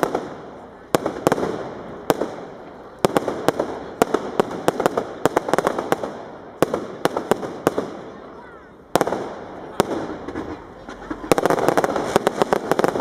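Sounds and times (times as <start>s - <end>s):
fireworks bangs echoing: 0.0s - 13.0s.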